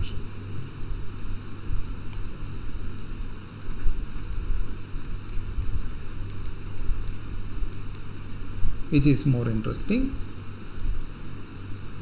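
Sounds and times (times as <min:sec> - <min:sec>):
faint hiss: 0:00.0 - 0:12.0
low rumbling background noise: 0:00.0 - 0:12.0.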